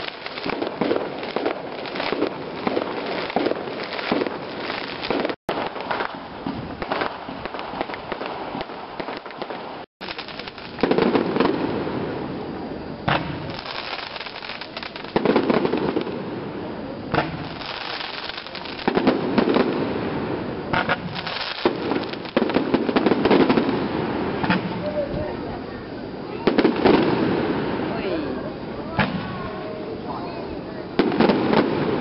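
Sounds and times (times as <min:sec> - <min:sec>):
fireworks crackling and popping: 0:00.0 - 0:32.0.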